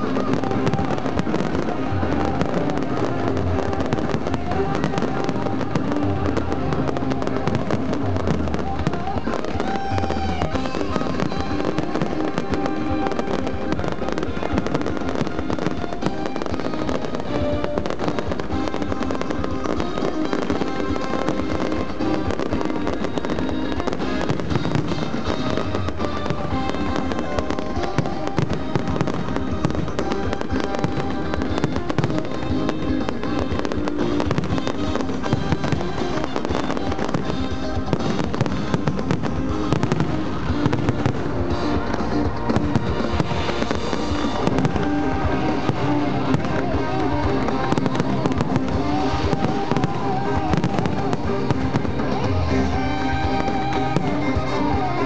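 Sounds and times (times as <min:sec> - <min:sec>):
fireworks bangs and crackles: 0:00.0 - 0:55.0
music playing: 0:00.0 - 0:55.0.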